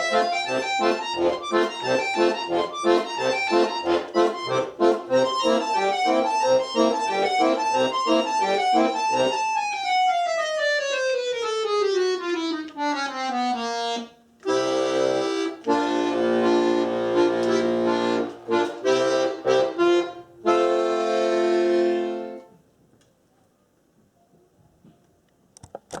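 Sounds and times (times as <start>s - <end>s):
accordion playing: 0.0s - 22.6s.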